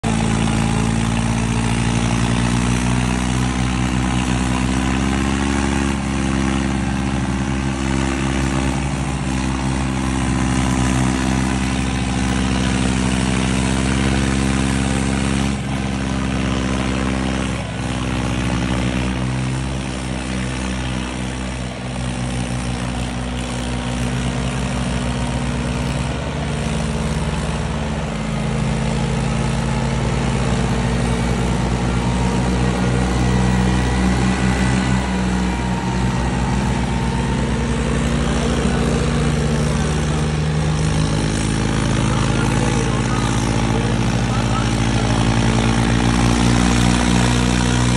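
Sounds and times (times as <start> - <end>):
tractor diesel engine at high revs: 0.0 - 47.9.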